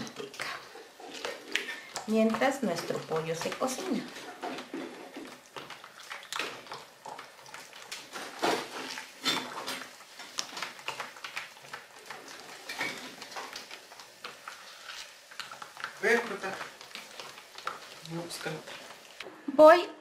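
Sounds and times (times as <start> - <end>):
utensil scraping and knocking bowl: 0.0 - 19.0.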